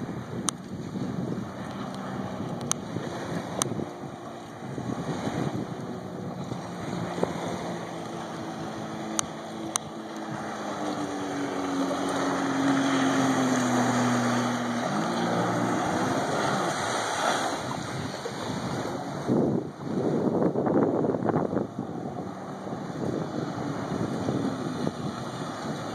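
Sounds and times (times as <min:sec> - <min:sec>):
jet ski engine: 0:00.0 - 0:25.9.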